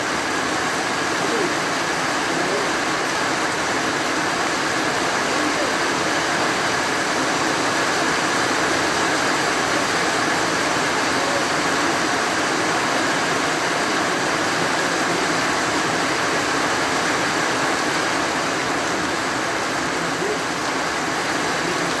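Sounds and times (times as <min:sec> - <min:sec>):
rain falling on trees: 0:00.0 - 0:22.0.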